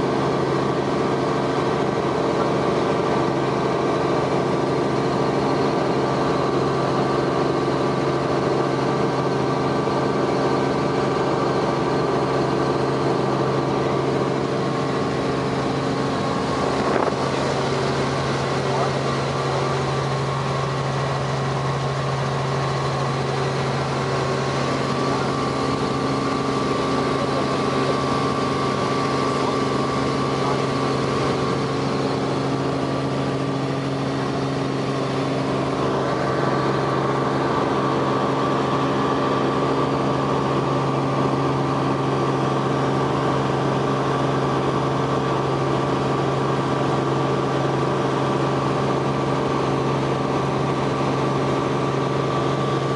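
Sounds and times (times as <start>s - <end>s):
helicopter engine and rotors drone: 0.0s - 52.9s.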